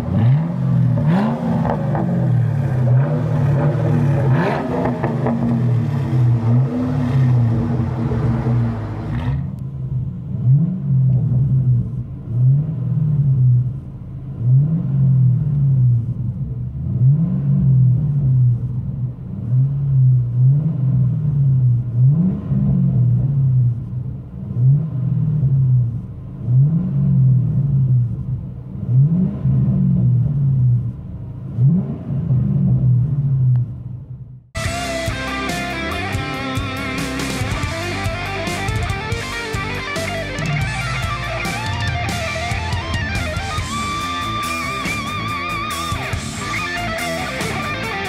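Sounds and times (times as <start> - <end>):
car engine idling: 0.0 - 48.0
car engine revving: 0.0 - 48.0.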